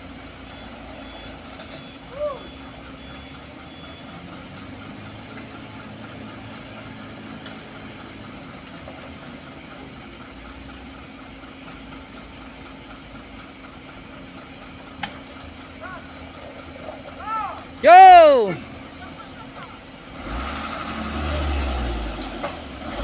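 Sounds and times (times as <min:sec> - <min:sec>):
heavy diesel engines running: 0:00.0 - 0:23.0.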